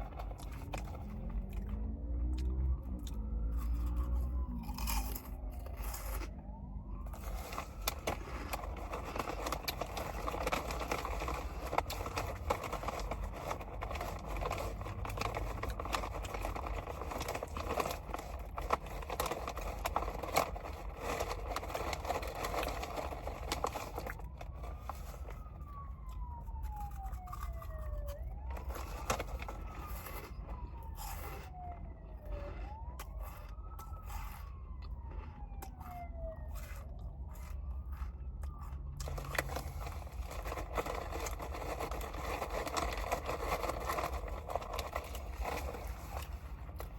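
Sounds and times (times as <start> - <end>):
emergency vehicle siren wailing: 0.0 - 46.9.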